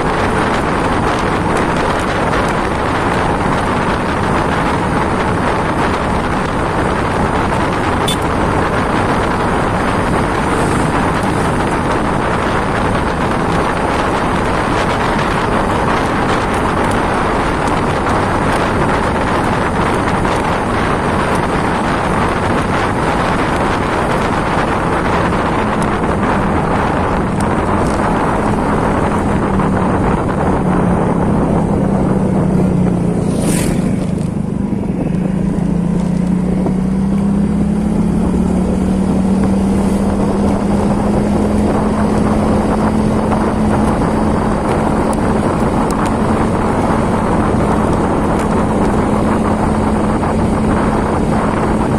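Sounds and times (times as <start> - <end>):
engine low hum: 0.0 - 51.9.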